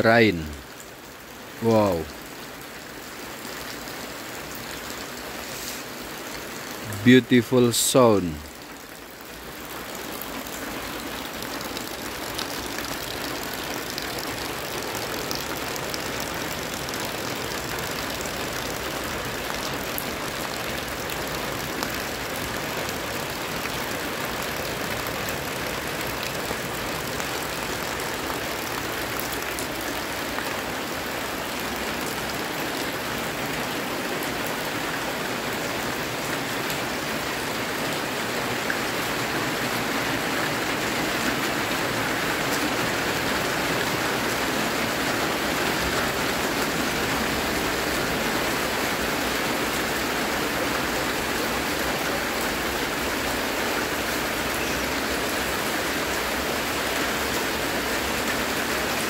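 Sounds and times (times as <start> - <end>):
rain falling on wet ground: 0.0 - 59.0.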